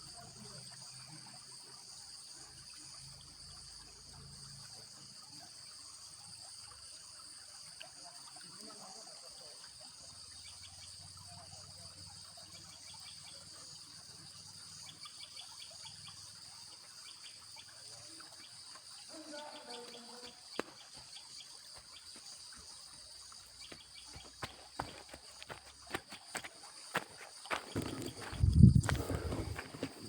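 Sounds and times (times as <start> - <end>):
jungle insects chorus: 0.0 - 30.0.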